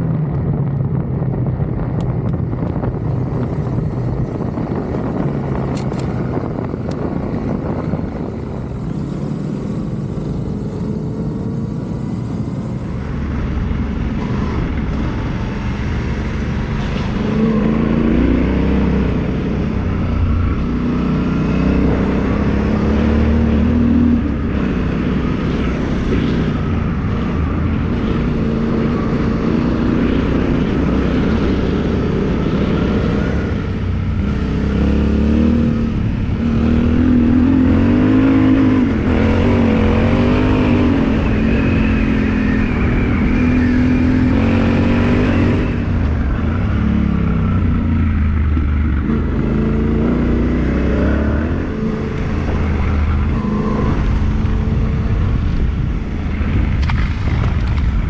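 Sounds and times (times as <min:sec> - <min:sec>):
rush of noise: 0:00.0 - 0:58.0
motorcycle engine revving: 0:01.0 - 0:58.0.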